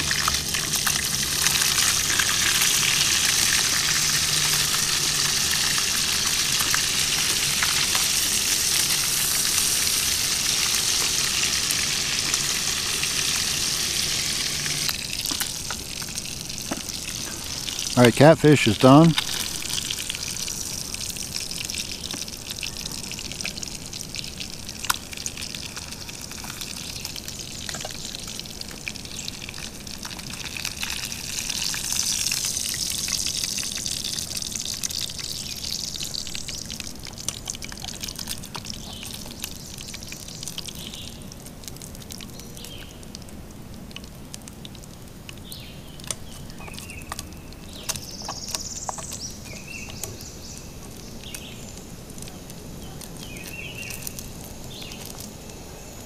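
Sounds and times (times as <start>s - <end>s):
grease sizzling in a frying pan: 0.0s - 56.0s.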